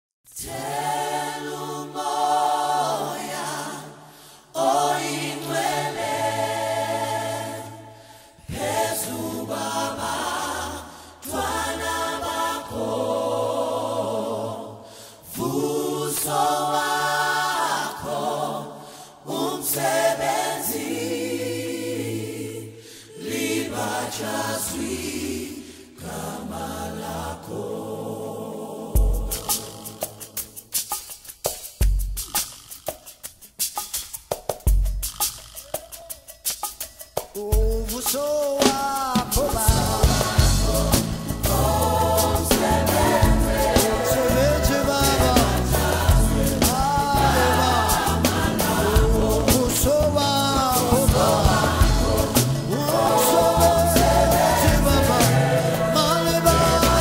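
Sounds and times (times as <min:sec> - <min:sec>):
choir singing slow phrases: 0:00.3 - 0:30.7, 0:39.1 - 0:57.0.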